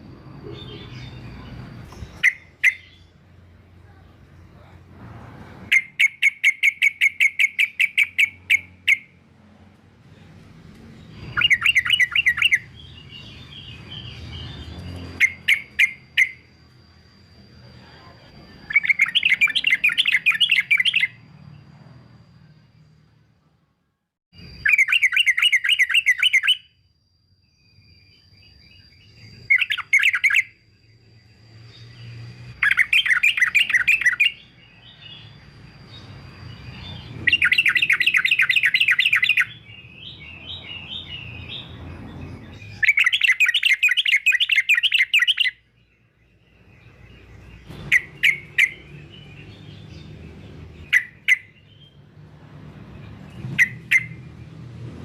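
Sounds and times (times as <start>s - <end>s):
bulbul singing: 0.0s - 4.6s, 5.7s - 9.3s, 10.8s - 23.3s, 24.3s - 54.8s.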